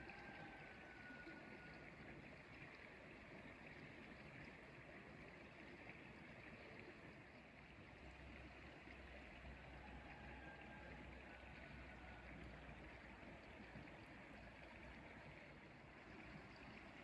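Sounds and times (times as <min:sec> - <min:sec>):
creek flowing over pebbles: 0:00.0 - 0:17.0.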